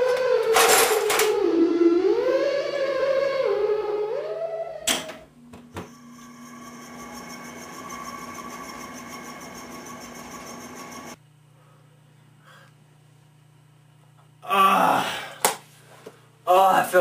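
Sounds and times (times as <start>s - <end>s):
air conditioner humming: 0.0s - 1.9s, 4.8s - 17.0s.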